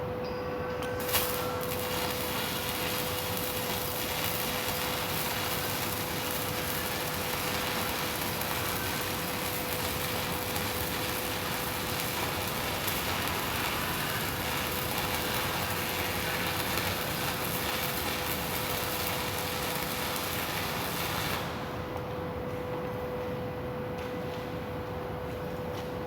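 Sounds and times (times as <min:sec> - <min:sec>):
welding hissing crackle: 0:00.9 - 0:22.1.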